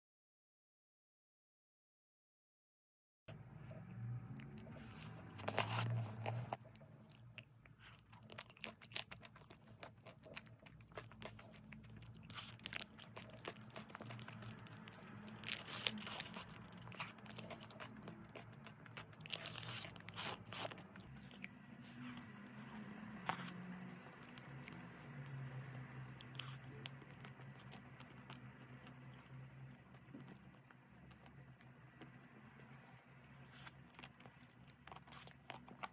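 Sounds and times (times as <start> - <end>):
crunching and chewing ice cream bars: 3.5 - 35.9.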